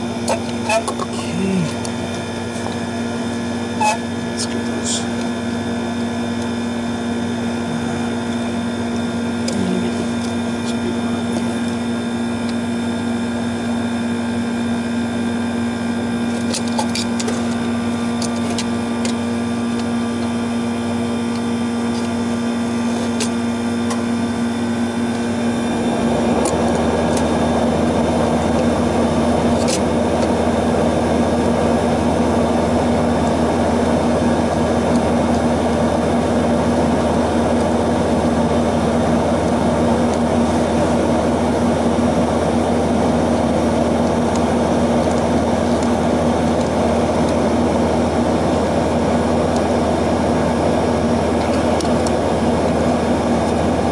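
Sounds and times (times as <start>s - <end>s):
air conditioning unit humming: 0.0s - 53.9s.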